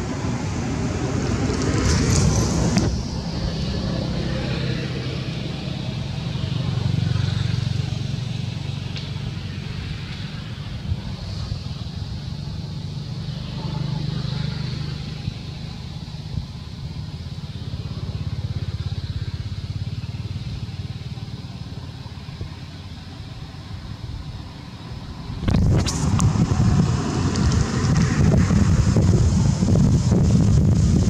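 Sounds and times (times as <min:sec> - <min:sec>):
motor engine running: 0:00.0 - 0:31.0.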